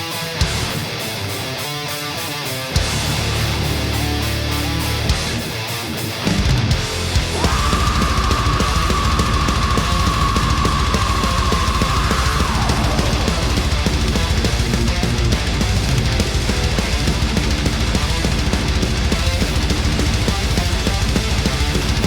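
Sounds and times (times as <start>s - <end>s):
heavy metal music: 0.0s - 22.0s.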